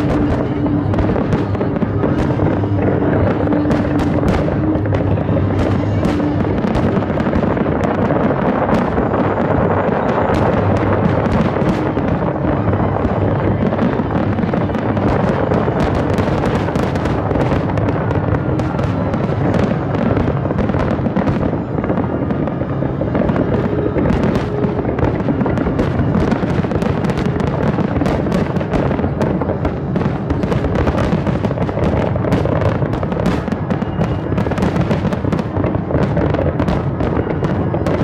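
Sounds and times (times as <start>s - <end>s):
firework shells exploding: 0.0s - 38.0s
music playing: 0.0s - 38.0s.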